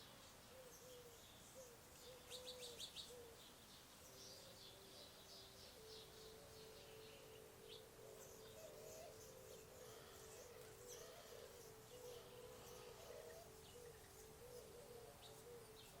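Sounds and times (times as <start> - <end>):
faint steady hum: 0.0 - 16.0
small birds chirping: 0.0 - 16.0.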